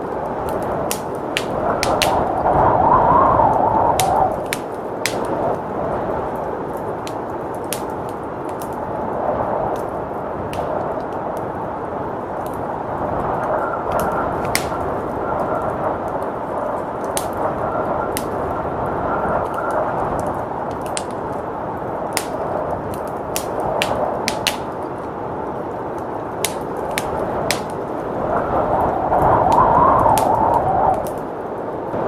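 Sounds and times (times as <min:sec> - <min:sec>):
blizzard wind rushing: 0:00.0 - 0:32.0
wood fire crackling and popping: 0:00.0 - 0:32.0.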